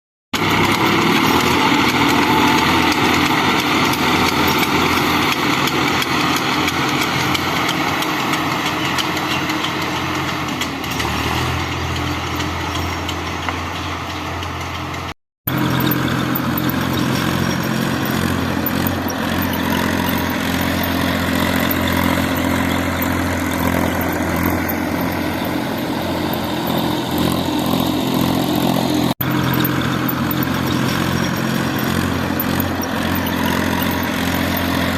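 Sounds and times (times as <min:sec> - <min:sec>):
tractor engine running: 0:00.4 - 0:34.9.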